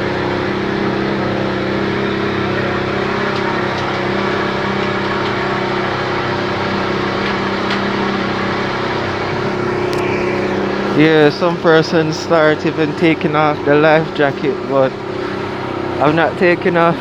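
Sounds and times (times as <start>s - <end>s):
speedboat engine running: 0.0s - 17.0s
water noise: 0.0s - 17.0s.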